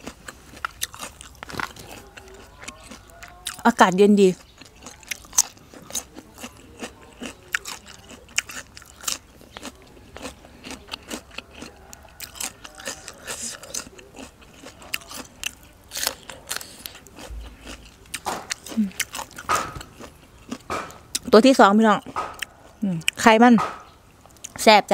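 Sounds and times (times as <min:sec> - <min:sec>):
crunchy vegetable chewing: 0:00.0 - 0:24.7.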